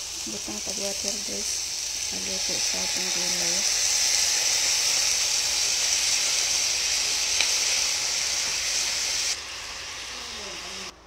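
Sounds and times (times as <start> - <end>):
faint hiss: 0.0 - 11.0
vegetables sizzling in a pan: 0.0 - 11.0.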